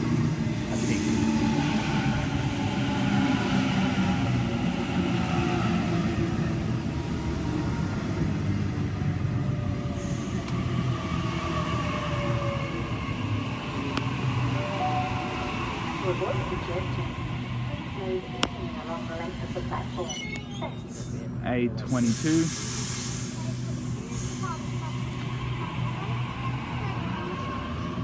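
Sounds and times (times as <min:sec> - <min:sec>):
electric train rumble with whine: 0:00.0 - 0:28.0.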